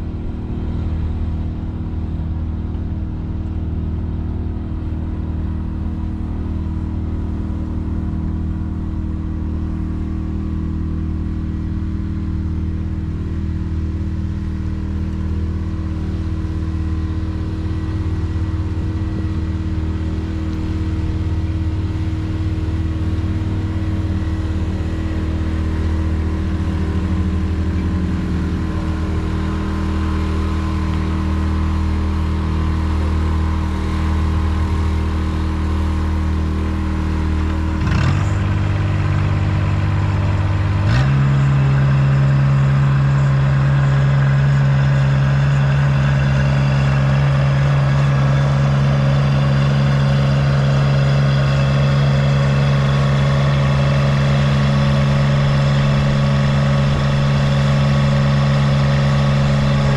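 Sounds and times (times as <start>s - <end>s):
pickup truck engine running: 0.0s - 59.9s.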